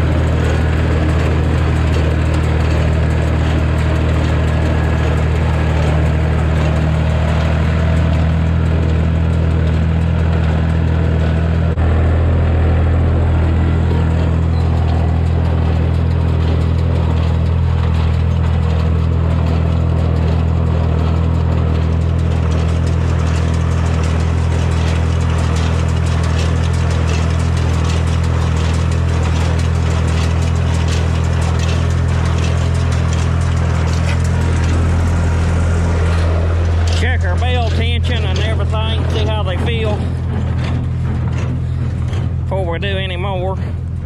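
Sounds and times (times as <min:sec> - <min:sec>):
baler mechanism clattering: 0:00.0 - 0:11.8, 0:13.6 - 0:44.0
tractor engine running: 0:00.0 - 0:44.0.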